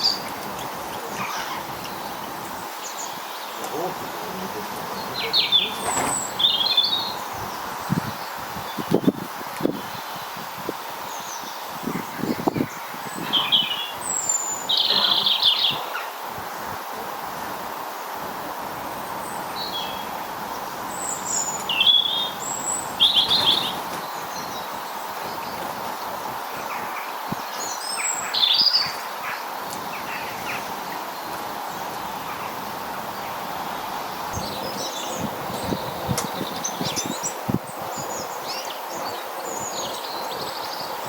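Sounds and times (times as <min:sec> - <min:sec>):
small birds chirping: 0:00.0 - 0:17.8, 0:18.4 - 0:41.0
steady background noise: 0:00.0 - 0:41.0.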